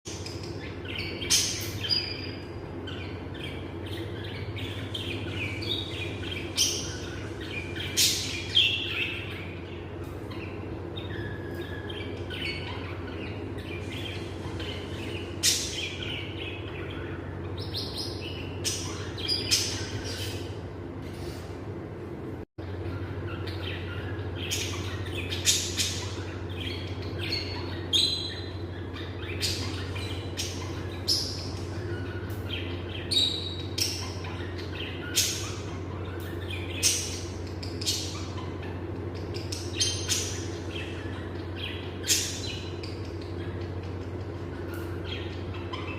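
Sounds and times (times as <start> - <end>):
lovebirds chirping: 0.1 - 21.4, 22.6 - 45.9
steady low hum: 0.1 - 45.9.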